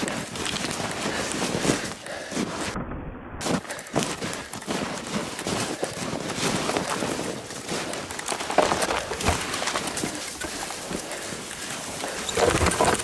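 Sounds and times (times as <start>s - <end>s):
footsteps crunching through snow: 0.0s - 2.8s, 3.4s - 13.0s.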